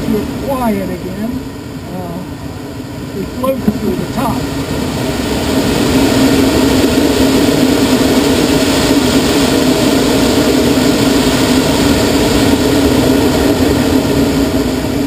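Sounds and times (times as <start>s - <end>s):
constant low hum: 0.0s - 15.0s
rush of airflow over glider: 0.0s - 15.0s.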